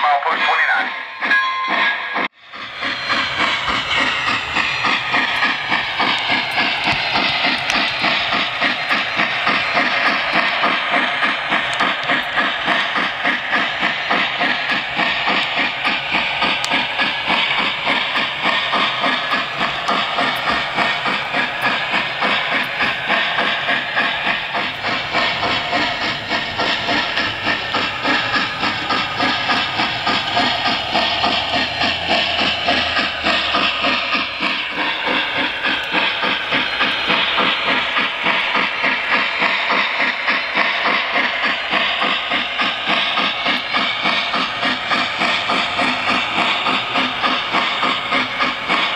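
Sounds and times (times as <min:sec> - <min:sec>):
model steam locomotive chuffing: 0:00.0 - 0:48.9.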